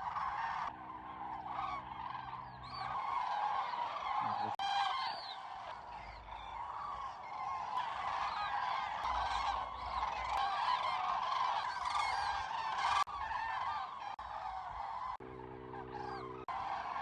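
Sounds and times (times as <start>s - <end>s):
cranes trumpeting: 0.0s - 17.0s.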